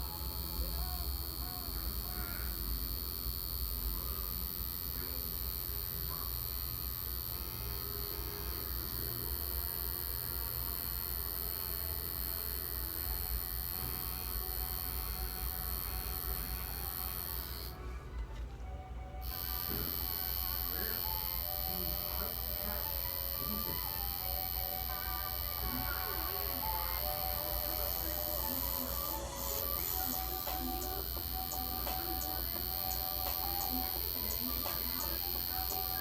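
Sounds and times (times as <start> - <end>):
tattoo machine buzzing: 0.0 - 17.8, 19.2 - 36.0.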